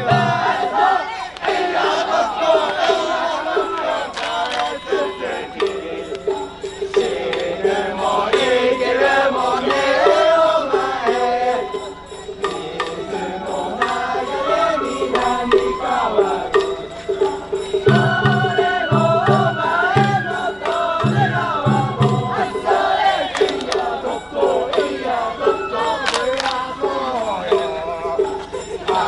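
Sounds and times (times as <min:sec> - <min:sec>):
chant-like voices: 0:00.0 - 0:29.0
wavering melody over drone: 0:00.0 - 0:29.0.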